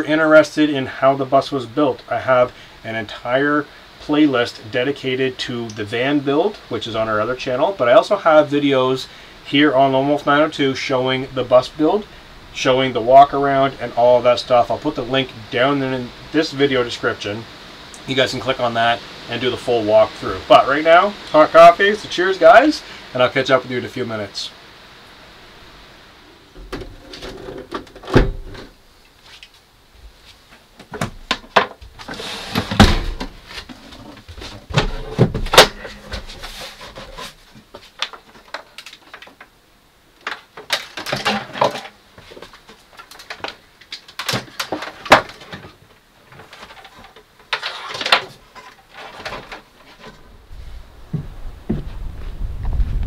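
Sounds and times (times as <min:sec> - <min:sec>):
rustling: 0:07.0 - 0:53.0.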